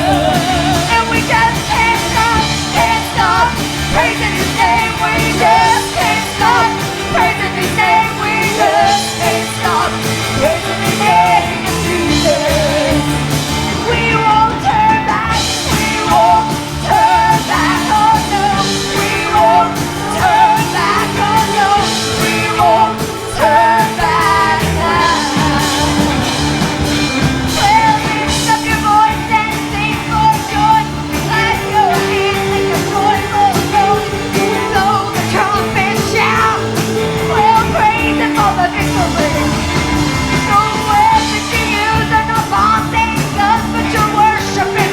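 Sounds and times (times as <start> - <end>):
drums: 0.0 - 44.9
person singing: 0.0 - 44.9
praise band playing gospel song: 0.0 - 44.9.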